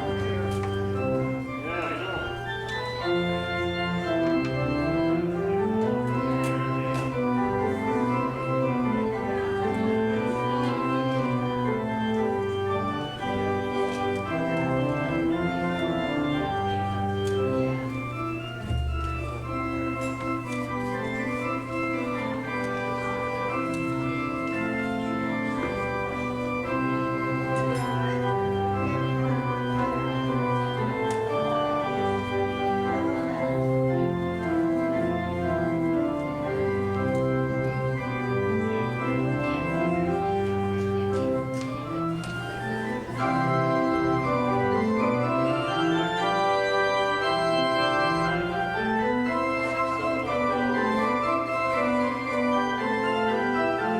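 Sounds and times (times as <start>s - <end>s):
church organ playing: 0.0s - 53.9s.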